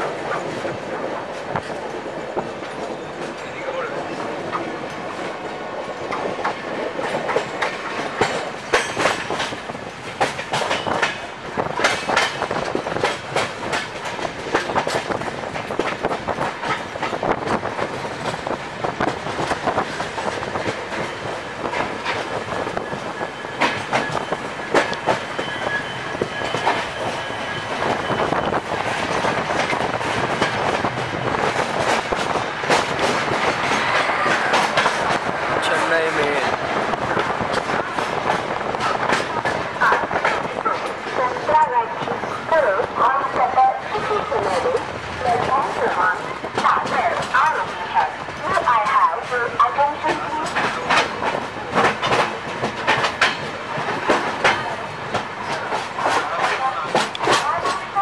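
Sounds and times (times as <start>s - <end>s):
train wheels clattering over joints: 0.0s - 58.0s.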